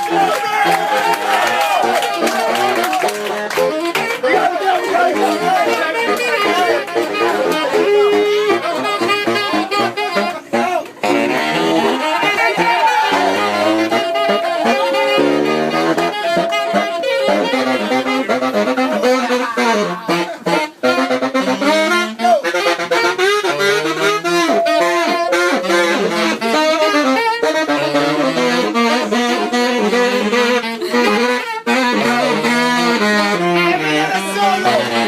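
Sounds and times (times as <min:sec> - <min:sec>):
bass line: 0:00.0 - 0:35.0
brass band backing: 0:00.0 - 0:35.0
jazz saxophone melody: 0:00.0 - 0:35.0.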